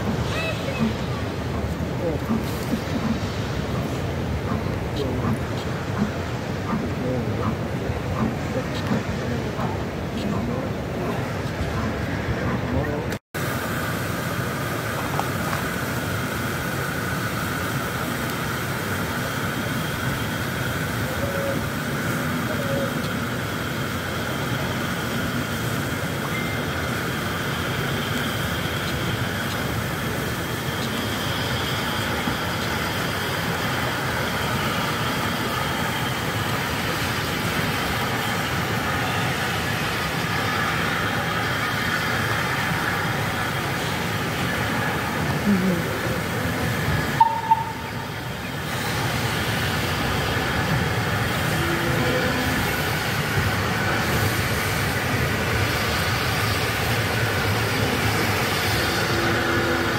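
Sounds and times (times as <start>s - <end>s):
distant steam locomotive hissing: 0.0s - 59.9s.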